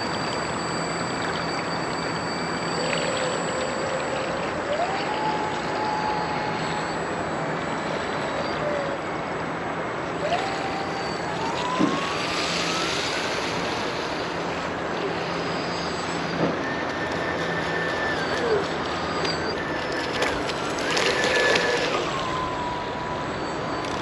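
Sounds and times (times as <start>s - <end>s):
electric motor whine: 0.0s - 24.0s.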